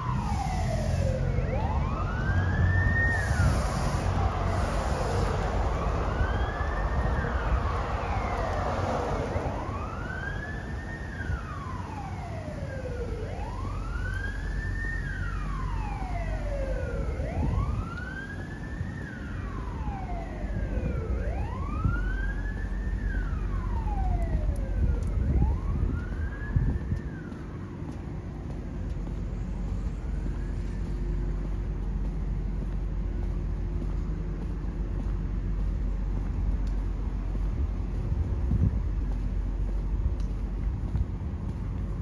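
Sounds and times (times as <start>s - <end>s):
emergency siren wailing: 0.0s - 42.0s
low rumble of city traffic: 0.0s - 42.0s.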